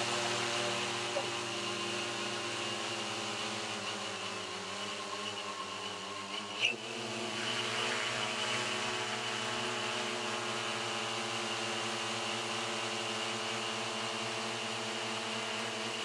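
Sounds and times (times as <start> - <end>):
drone hovering buzzing hum: 0.0 - 16.0.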